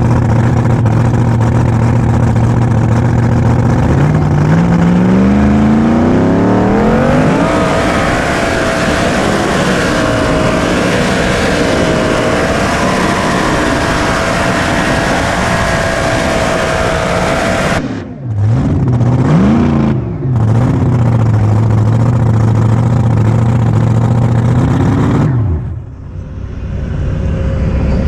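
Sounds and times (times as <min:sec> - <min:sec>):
tractor engine revving and idling: 0:00.0 - 0:28.0.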